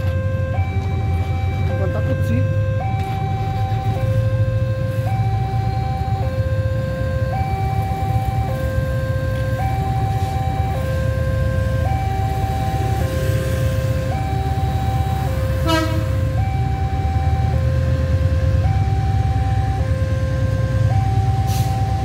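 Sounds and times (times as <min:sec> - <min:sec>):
two-tone railway warning signal: 0:00.0 - 0:17.8
diesel locomotive rumble: 0:00.0 - 0:22.0.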